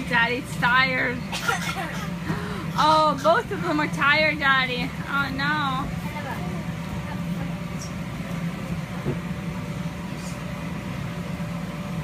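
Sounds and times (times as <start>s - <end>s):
air blower humming: 0.0s - 12.0s.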